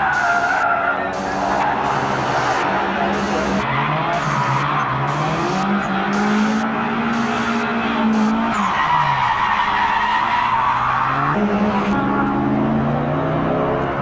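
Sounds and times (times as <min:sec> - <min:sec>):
tyre screeching and skidding: 0:00.0 - 0:12.6
car engine revving: 0:00.0 - 0:14.0.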